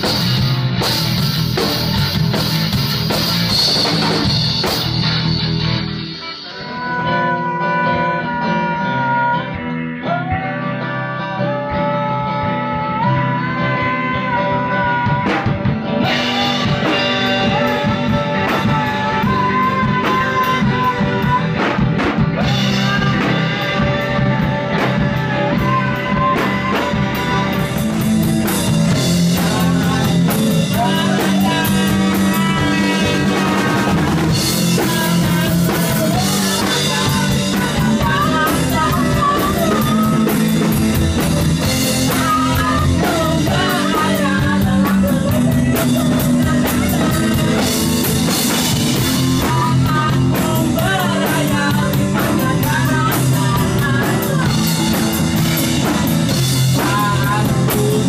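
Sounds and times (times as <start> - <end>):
rock song with singing: 0.0 - 58.0.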